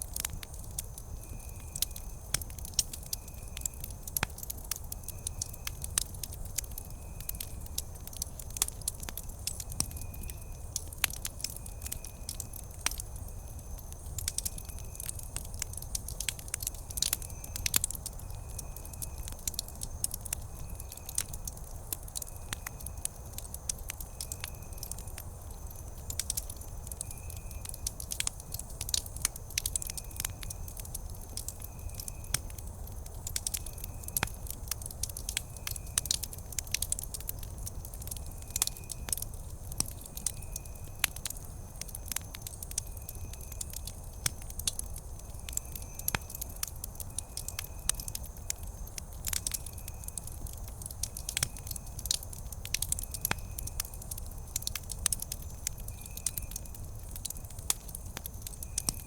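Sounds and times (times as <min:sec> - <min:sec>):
campfire wood crackling: 0:00.0 - 0:59.0.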